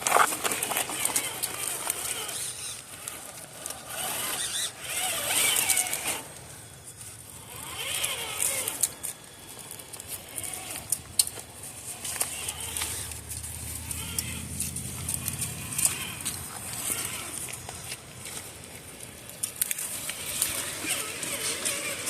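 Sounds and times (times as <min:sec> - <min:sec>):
rc truck electric motor whining: 0:00.0 - 0:22.0.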